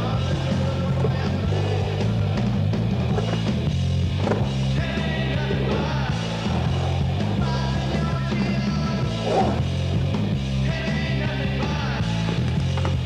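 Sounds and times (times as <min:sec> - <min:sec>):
rock music: 0:00.0 - 0:13.0
steady bass line: 0:00.0 - 0:13.0.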